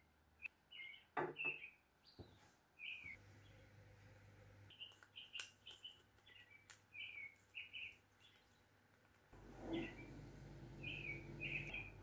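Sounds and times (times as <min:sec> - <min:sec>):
small birds chirping: 0:00.4 - 0:03.7, 0:04.6 - 0:12.0.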